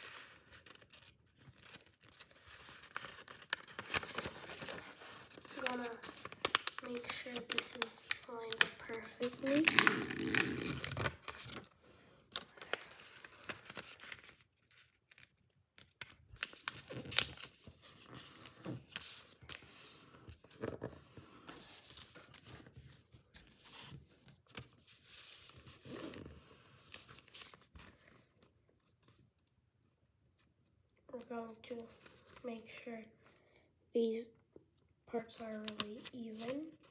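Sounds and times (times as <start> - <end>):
paper rustling and crinkling: 0.0 - 29.3, 35.3 - 36.9.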